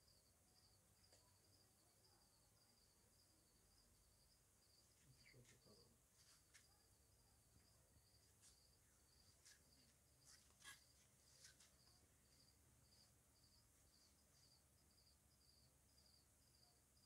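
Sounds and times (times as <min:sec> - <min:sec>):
insect chirping faintly: 0:00.0 - 0:17.0.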